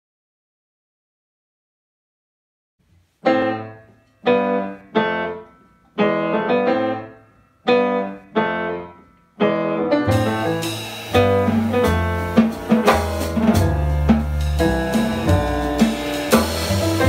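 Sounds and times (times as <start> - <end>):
grand piano jazz chords: 3.2 - 17.0.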